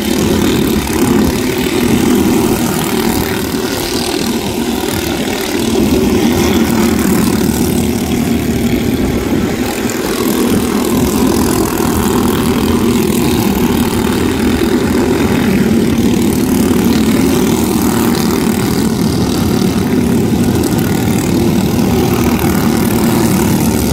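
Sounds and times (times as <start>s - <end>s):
race car engines droning: 0.0s - 23.9s.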